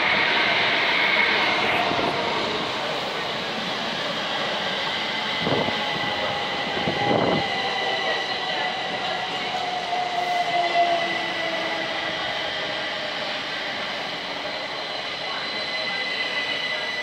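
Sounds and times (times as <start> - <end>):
train high whine: 0.0 - 17.0
train wheels rumbling on rails: 0.0 - 17.0.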